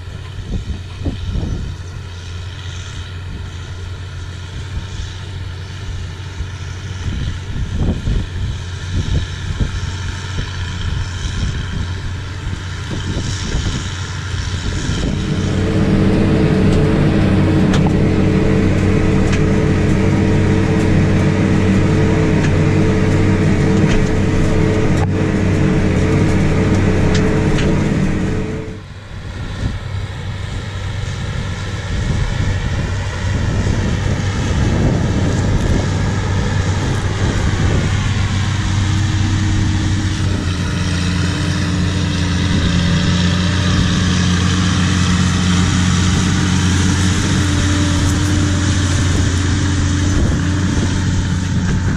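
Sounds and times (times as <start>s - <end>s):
tractor diesel engine drone: 0.0s - 51.9s.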